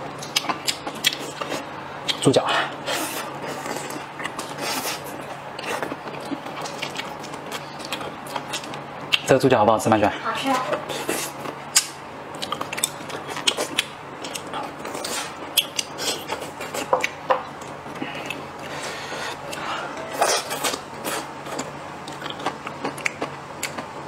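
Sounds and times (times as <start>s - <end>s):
chewing and mouth sounds: 0.2s - 9.4s, 10.7s - 24.0s.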